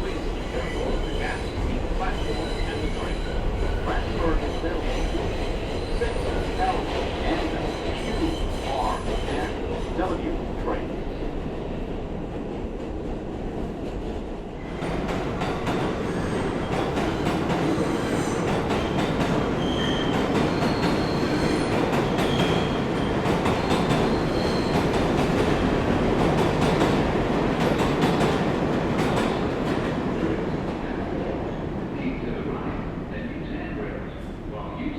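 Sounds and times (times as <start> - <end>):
subway train running on rails: 0.0 - 34.9.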